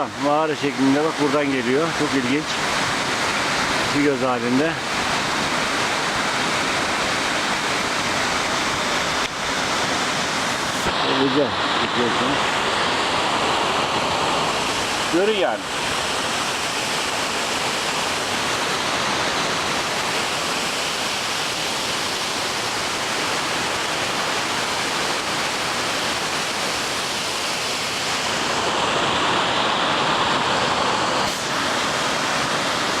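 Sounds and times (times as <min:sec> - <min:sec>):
waterfall rushing onto rock: 0:00.0 - 0:33.0.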